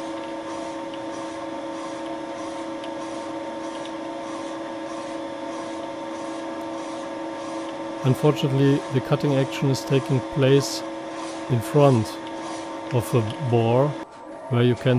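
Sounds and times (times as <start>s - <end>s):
milling machine hum: 0.0s - 14.9s.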